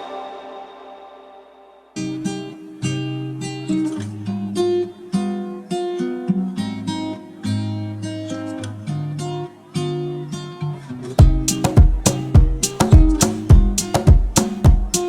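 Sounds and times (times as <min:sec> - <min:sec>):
strummed acoustic guitar chords: 0:01.9 - 0:15.0.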